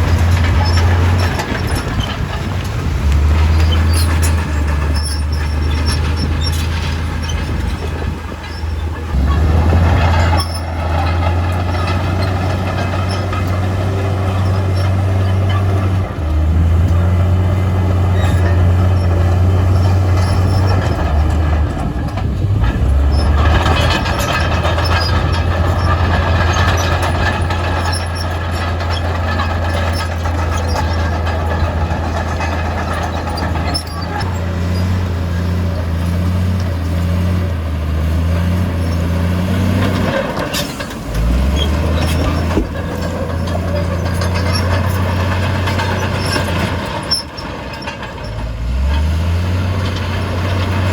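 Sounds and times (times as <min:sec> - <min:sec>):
heavy machinery diesel engine: 0:00.0 - 0:50.9
rattling: 0:00.0 - 0:50.9.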